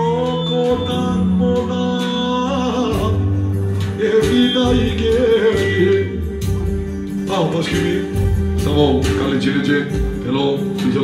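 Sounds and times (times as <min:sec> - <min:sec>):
electronic keyboard backing: 0:00.0 - 0:11.0
man singing into microphone: 0:00.0 - 0:11.0.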